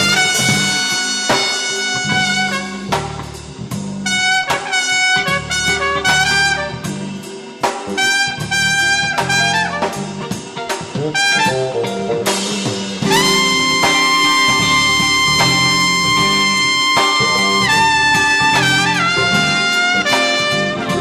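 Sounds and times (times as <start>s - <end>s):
brass jazz music: 0.0s - 21.0s.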